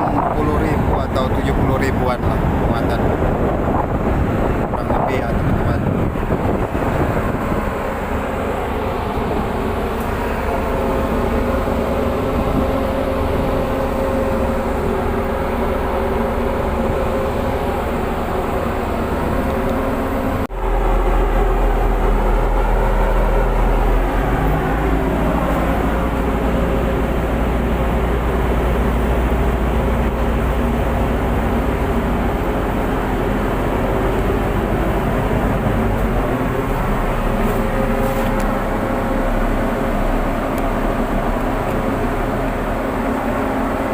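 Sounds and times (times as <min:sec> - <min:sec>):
diesel engines rumbling: 0:00.0 - 0:43.9.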